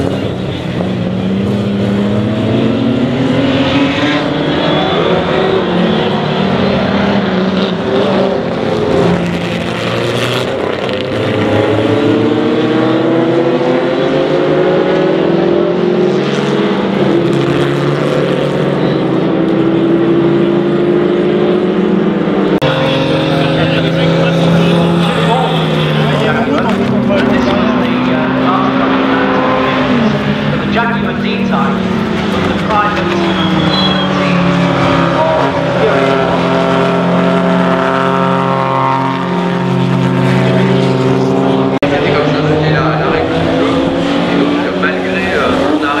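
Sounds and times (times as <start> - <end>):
racing car engines accelerating: 0.0 - 46.0.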